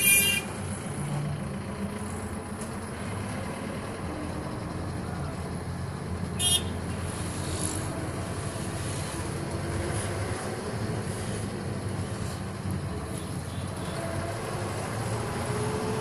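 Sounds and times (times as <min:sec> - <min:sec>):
road noise inside moving car: 0:00.0 - 0:16.0.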